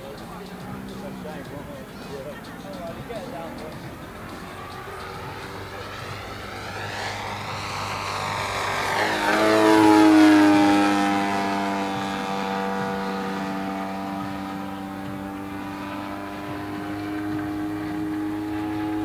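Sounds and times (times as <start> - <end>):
model aeroplane flying past: 0.0 - 19.0.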